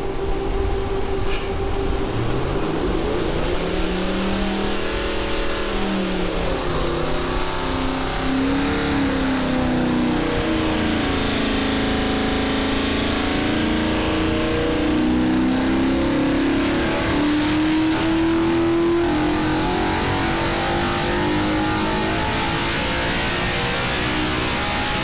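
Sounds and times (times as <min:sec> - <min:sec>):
engine revving: 0:00.0 - 0:25.0.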